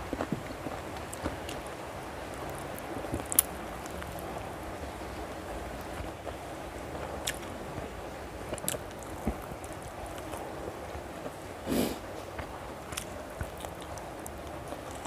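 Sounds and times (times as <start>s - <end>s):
steady low hiss: 0.0s - 15.0s
person chewing food: 0.1s - 15.0s.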